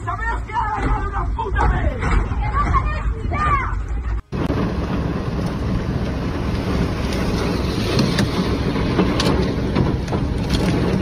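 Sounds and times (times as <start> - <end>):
storm wind buffeting microphone: 0.2 - 11.0.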